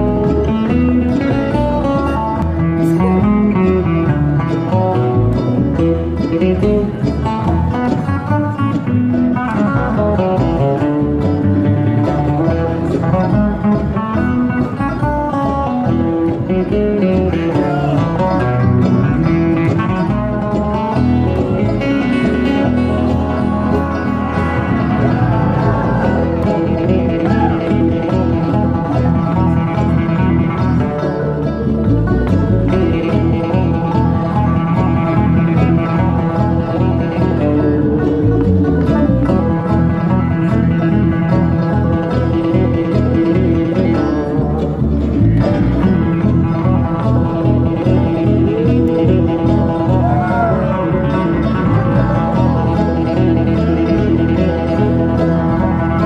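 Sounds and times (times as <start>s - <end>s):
acoustic guitar: 0.0s - 56.0s
banjo: 0.0s - 56.0s
upright bass: 0.0s - 56.0s.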